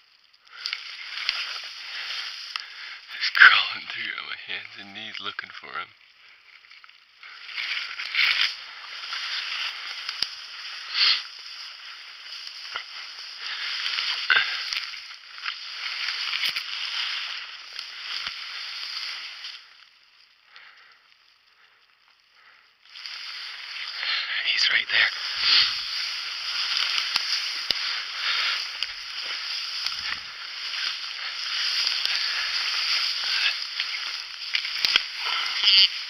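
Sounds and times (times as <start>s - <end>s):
brush rustling and crackling: 0.0s - 36.0s.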